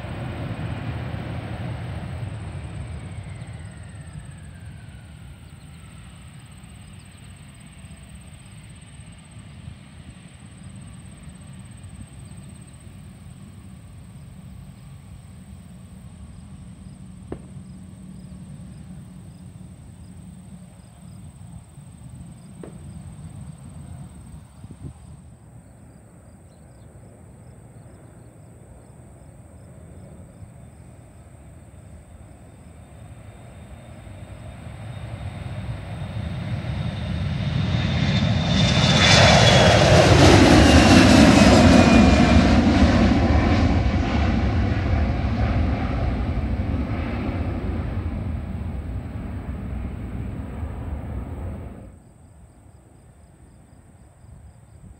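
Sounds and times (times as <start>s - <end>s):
crickets chirping: 0.0s - 54.9s
jet engines whining and rumbling: 0.0s - 54.9s.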